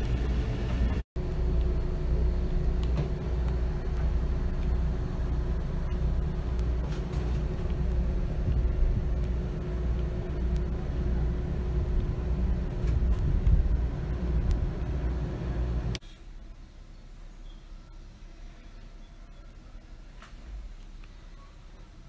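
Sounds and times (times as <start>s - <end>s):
low machinery rumble: 0.0s - 22.0s
faint steady hum: 1.2s - 22.0s.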